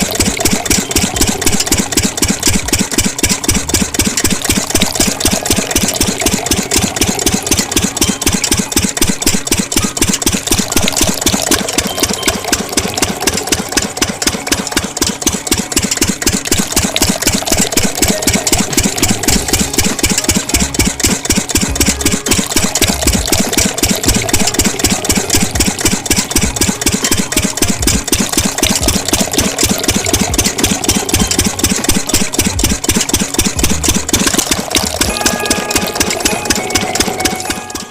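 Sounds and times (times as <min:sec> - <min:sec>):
diesel engine idling: 0:00.0 - 0:11.8, 0:12.5 - 0:37.5.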